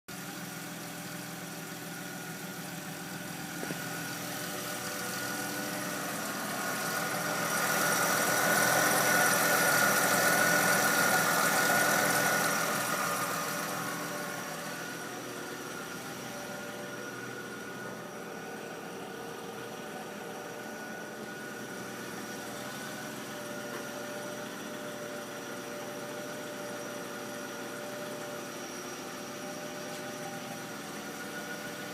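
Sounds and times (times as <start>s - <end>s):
car engine idling roughly: 0.1s - 31.9s.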